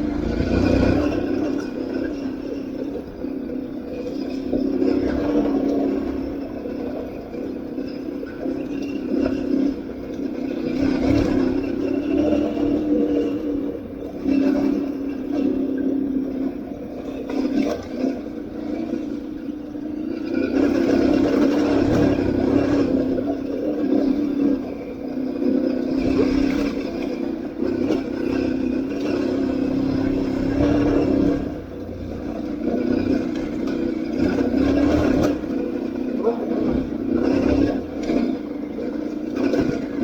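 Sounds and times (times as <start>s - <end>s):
motorcycle engine revving: 0.0s - 3.2s, 8.8s - 15.5s, 17.1s - 40.0s.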